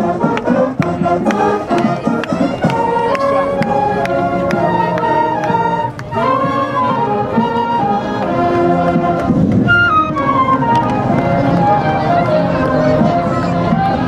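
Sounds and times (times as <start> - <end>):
flute melody: 0.0 - 14.0
marching band playing: 0.0 - 14.0.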